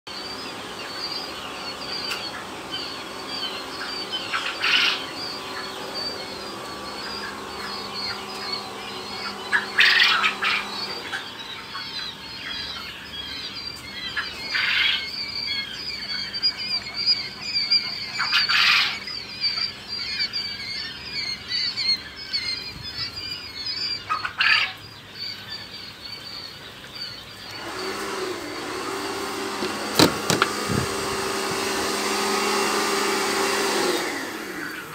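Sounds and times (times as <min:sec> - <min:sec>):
steady machine hum: 0:00.1 - 0:24.1, 0:24.8 - 0:34.9
quail chicks peeping: 0:00.1 - 0:34.9.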